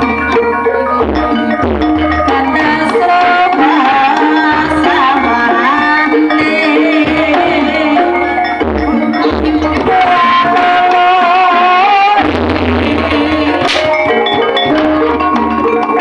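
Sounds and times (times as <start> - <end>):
hand drums: 0.0 - 16.0
wavering held melody: 0.0 - 16.0.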